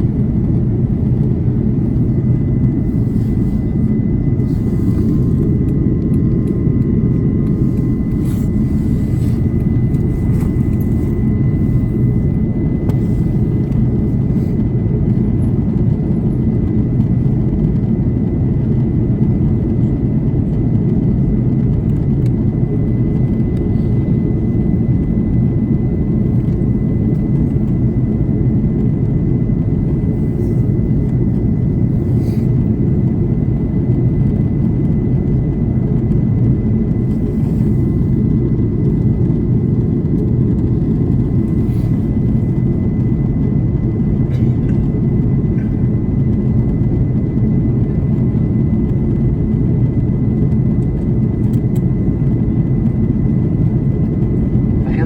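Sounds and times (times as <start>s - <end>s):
airliner cabin engine rumble: 0.0s - 55.0s
faint steady whine: 0.0s - 55.0s.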